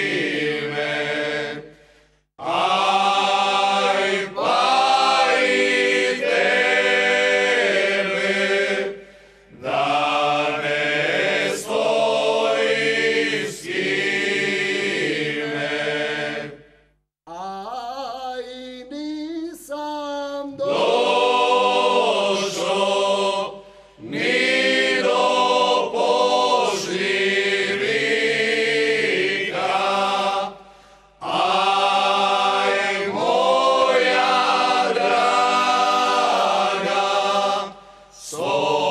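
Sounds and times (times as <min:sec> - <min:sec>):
male vocal group singing a cappella: 0:00.0 - 0:01.8, 0:02.4 - 0:16.6, 0:17.3 - 0:38.9.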